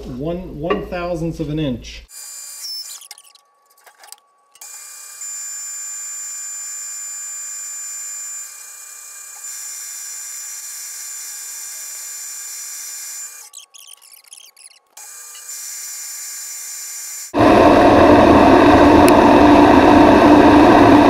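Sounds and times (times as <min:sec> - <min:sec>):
metal lathe whining: 0:02.1 - 0:19.4.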